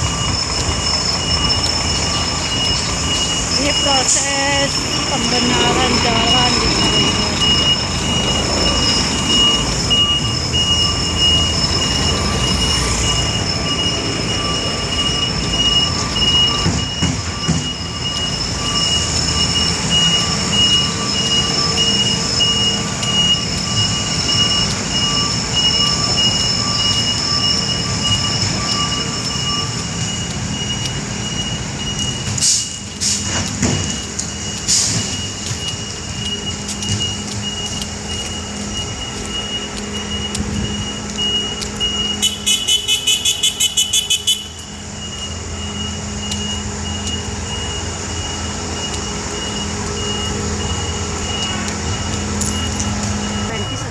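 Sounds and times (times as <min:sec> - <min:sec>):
high pulsing whine: 0:00.0 - 0:53.9
road repair machinery rumbling: 0:00.0 - 0:53.9.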